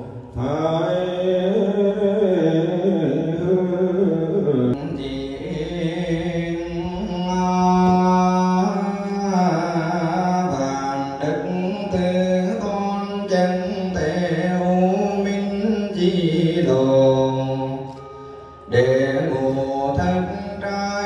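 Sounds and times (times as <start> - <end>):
liturgical chanting: 0.0 - 21.0.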